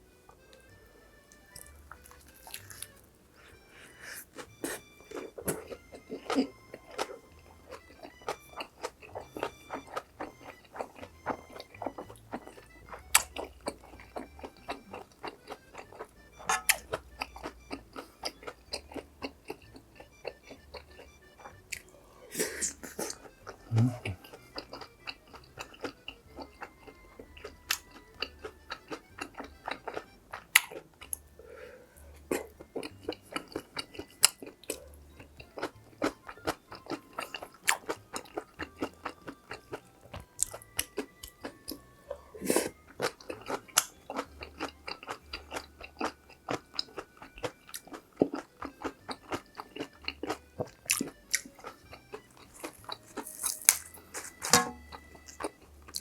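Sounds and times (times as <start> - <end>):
food crunching: 0.0 - 56.0
wet mouth chewing sounds: 0.3 - 56.0.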